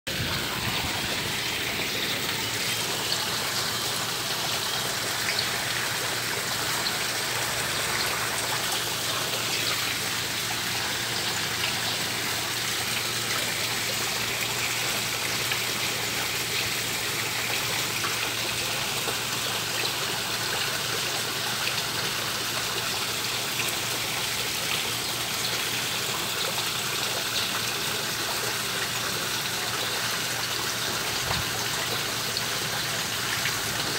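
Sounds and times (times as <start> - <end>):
water running and trickling: 0.1 - 33.9.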